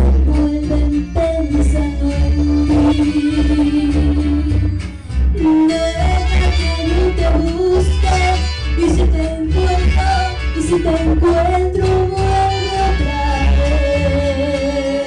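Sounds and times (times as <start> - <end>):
backing track with guitar: 0.0 - 15.0
woman singing into microphone: 0.0 - 15.0.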